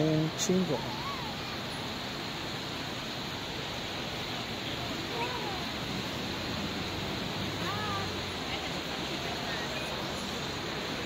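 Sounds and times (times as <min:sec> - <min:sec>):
rushing air hiss: 0:00.0 - 0:11.0.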